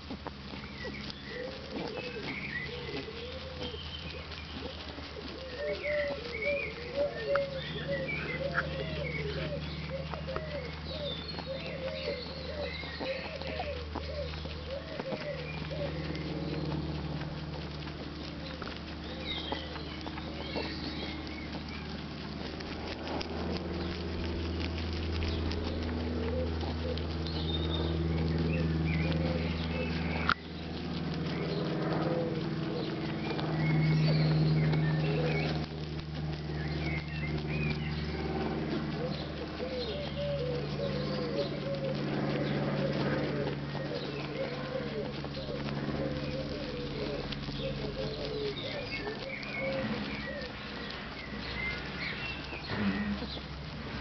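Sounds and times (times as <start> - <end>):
low cooing bird calls: 0.0 - 54.0
rabbits chewing grass: 0.0 - 54.0
steady low hum: 0.0 - 54.0.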